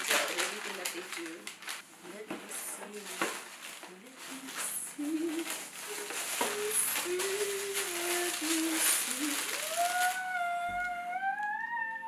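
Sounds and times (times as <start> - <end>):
tissue paper rustling: 0.0 - 11.5.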